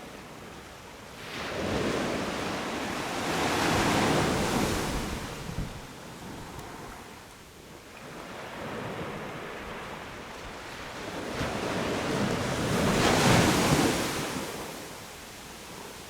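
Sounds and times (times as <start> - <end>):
sea waves breaking on beach: 1.2 - 7.2, 8.0 - 16.0.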